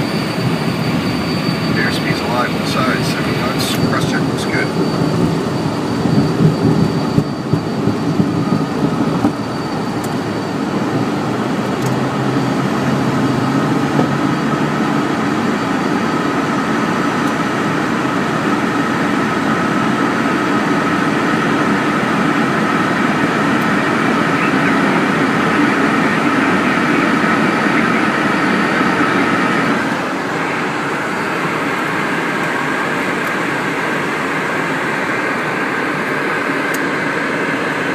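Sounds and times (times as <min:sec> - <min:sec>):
jet engines during takeoff: 0:00.0 - 0:37.9.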